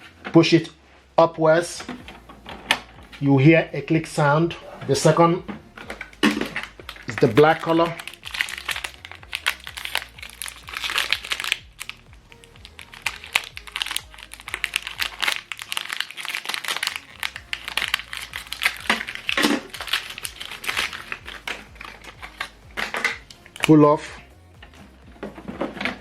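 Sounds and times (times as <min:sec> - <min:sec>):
packaging crinkling and rustling: 0:04.5 - 0:26.0.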